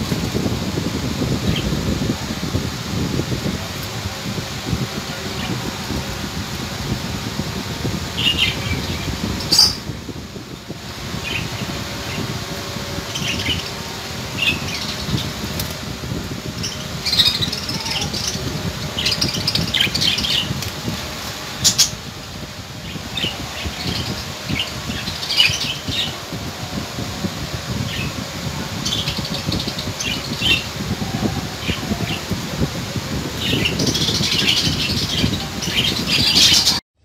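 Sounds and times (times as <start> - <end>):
low rumbling background noise: 0.0 - 36.8.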